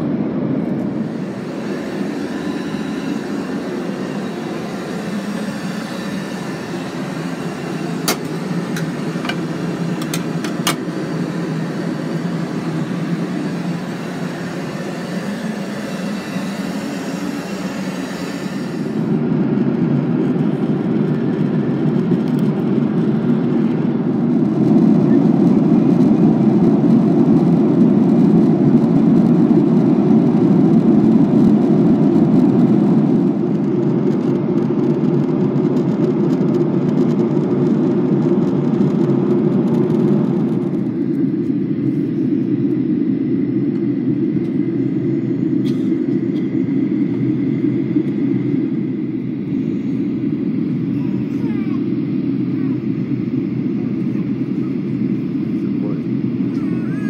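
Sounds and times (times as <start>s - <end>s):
airplane cabin engine noise: 0.0s - 57.0s.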